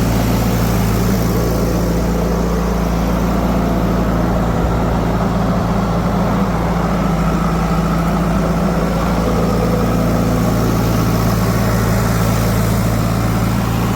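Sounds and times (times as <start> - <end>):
heavy vehicle engine idling: 0.0 - 13.9.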